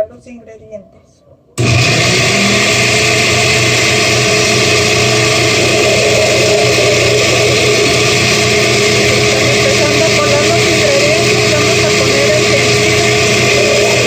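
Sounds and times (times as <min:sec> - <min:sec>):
blender motor running: 0:01.6 - 0:14.0.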